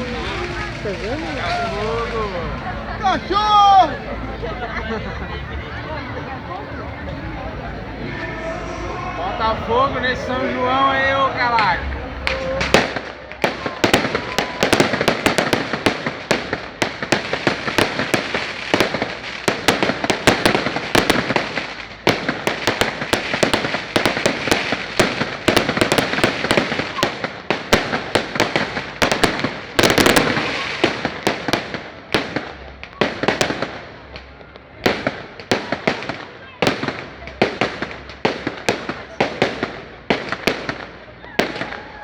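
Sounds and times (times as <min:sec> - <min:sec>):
bonfire crackling and popping: 0:00.0 - 0:04.6, 0:08.1 - 0:42.0
loud fire cracks: 0:00.0 - 0:04.7, 0:07.7 - 0:42.0
fire rushing hiss: 0:00.0 - 0:05.2, 0:07.2 - 0:35.8.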